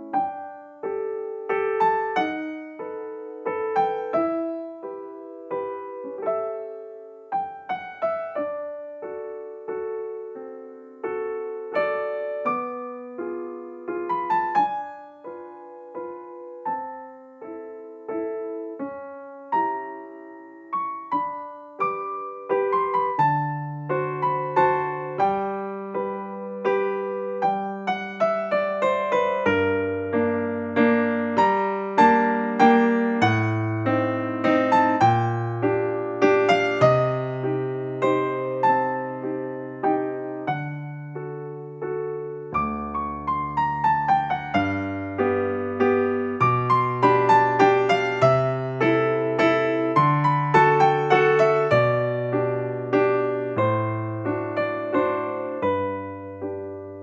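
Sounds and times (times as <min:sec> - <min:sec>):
gentle piano melody: 0:00.0 - 0:57.0
piano bass chords: 0:00.0 - 0:57.0.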